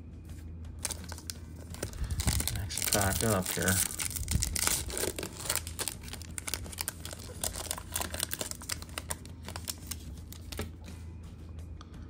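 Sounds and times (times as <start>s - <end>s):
foil wrapper crinkling: 0.8s - 10.7s.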